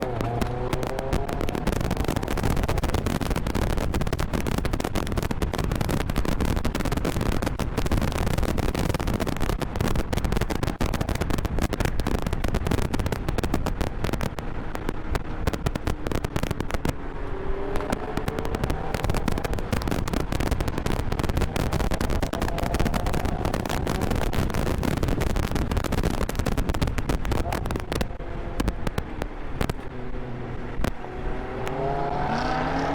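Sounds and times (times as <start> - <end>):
car engine accelerating: 0.0 - 9.8, 10.4 - 32.9
wind buffeting on microphone: 0.0 - 32.9.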